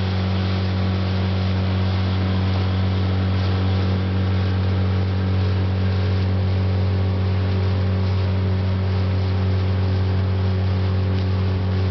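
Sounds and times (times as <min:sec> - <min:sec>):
motorboat engine droning: 0:00.0 - 0:11.9.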